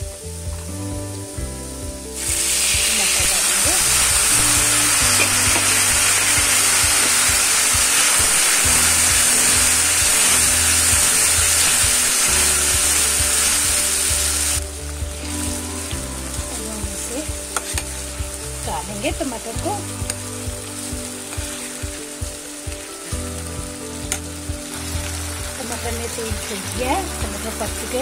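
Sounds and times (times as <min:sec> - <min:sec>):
tomatoes sizzling in hot oil: 0:00.0 - 0:28.0.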